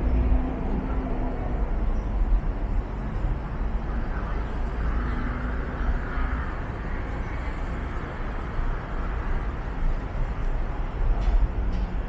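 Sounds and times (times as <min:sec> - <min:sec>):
low city rumble: 0:00.0 - 0:12.0.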